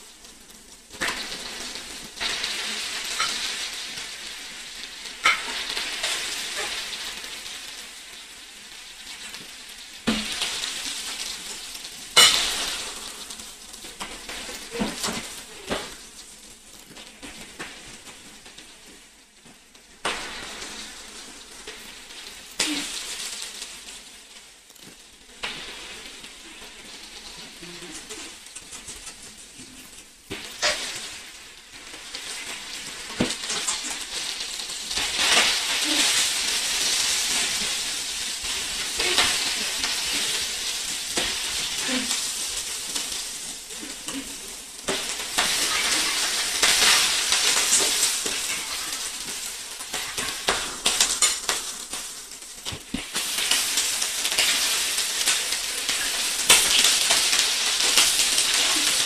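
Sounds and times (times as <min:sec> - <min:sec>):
food frying in hot oil: 0:00.0 - 0:59.0.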